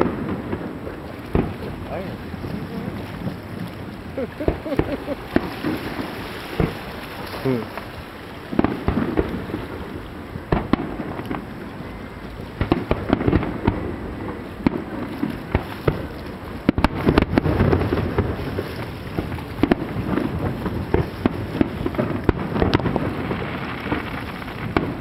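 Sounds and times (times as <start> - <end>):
continuous low rumble: 0.0 - 25.0
firework bangs and crackles: 0.0 - 25.0.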